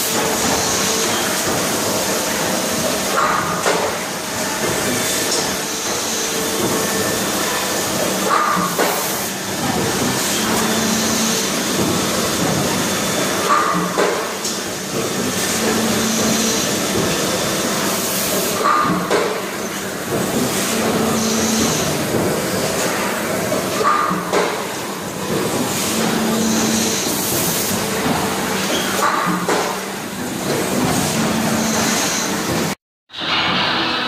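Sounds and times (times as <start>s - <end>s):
steady machine noise: 0.0s - 34.0s.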